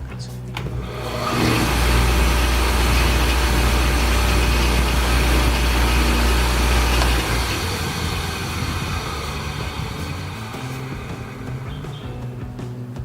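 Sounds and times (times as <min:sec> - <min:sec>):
wood lathe motor humming: 0:00.6 - 0:12.6.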